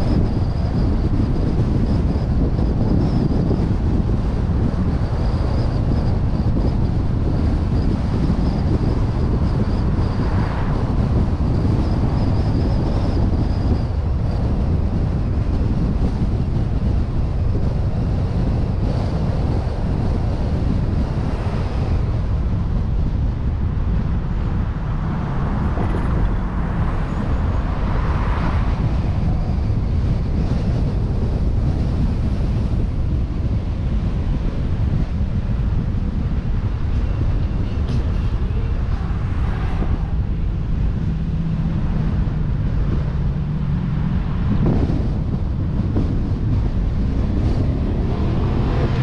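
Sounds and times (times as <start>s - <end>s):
road and engine rumble: 0.0s - 49.0s
wind on microphone: 0.0s - 49.0s.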